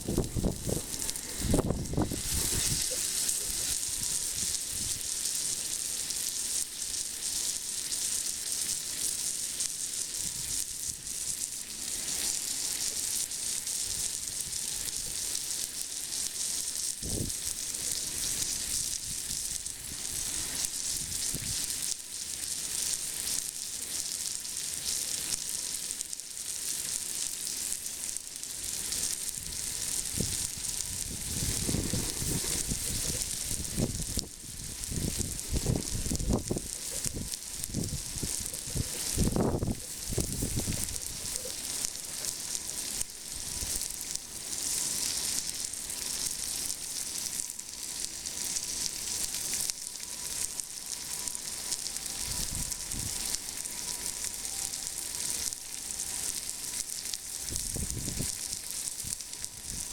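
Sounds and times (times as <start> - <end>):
steak sizzling on iron plate: 0.0 - 59.9.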